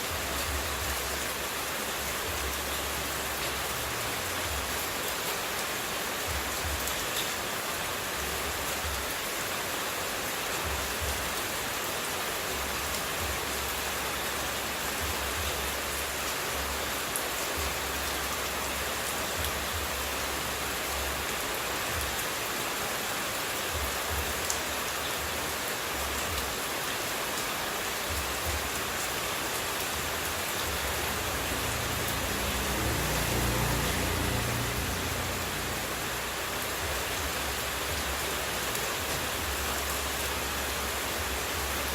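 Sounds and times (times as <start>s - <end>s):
running water rushing hiss: 0.0s - 41.9s.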